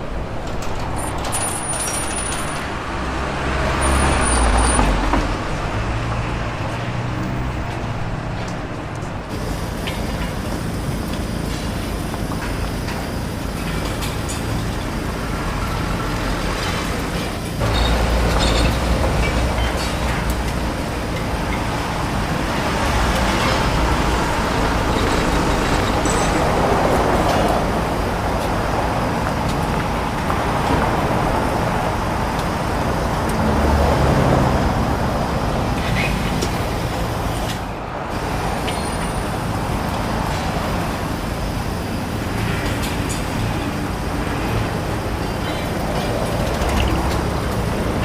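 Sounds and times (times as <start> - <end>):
vehicle engine rumble with hiss: 0.0 - 48.0.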